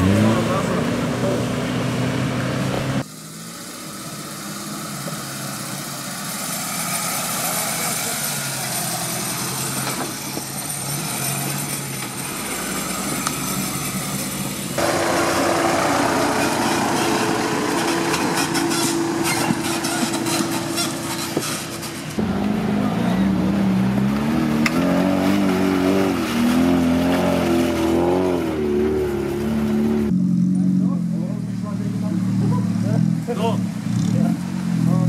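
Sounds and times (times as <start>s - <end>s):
off-road engine revving: 0.0s - 35.0s
strained engine drone: 4.7s - 35.0s.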